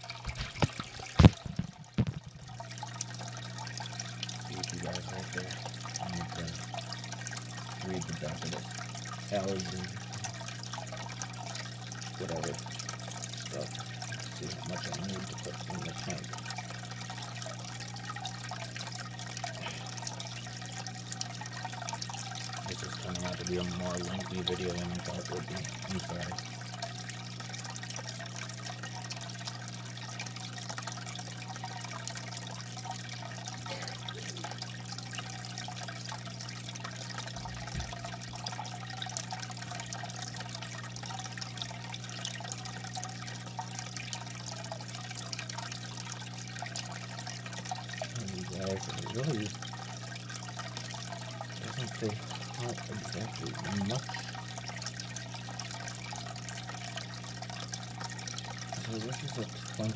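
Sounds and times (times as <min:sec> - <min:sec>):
low filter hum: 0:00.0 - 0:28.2, 0:28.8 - 0:59.9
water trickling and splashing: 0:00.0 - 0:59.9.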